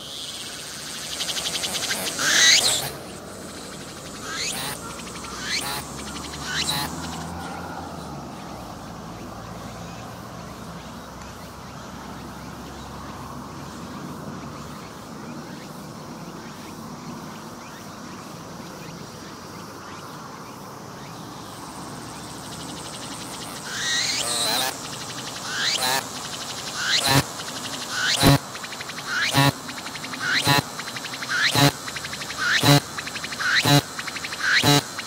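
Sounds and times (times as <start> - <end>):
cicada calling in loud bursts: 0.0 - 35.0
faint outdoor background: 0.0 - 35.0.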